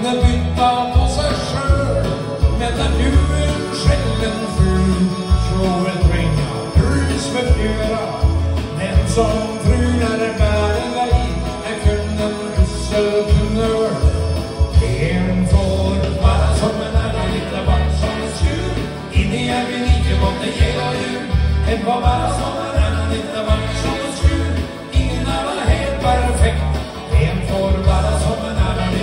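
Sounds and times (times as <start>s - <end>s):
man singing into microphone: 0.0s - 29.0s
music with steady beat: 0.0s - 29.0s.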